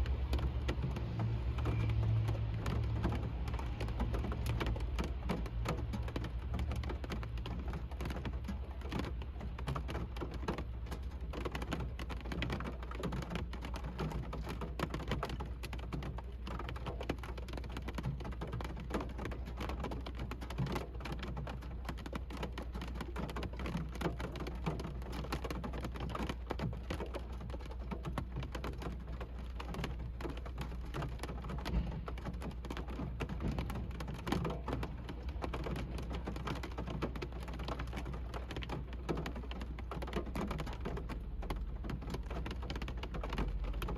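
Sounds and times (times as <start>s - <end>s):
constant low rumble: 0.0s - 43.9s
rain drumming on car roof: 0.0s - 43.9s.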